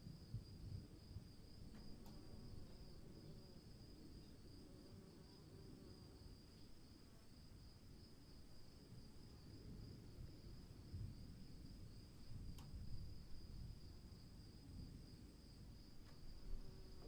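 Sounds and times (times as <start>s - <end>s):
insects chirring: 0.2s - 17.0s.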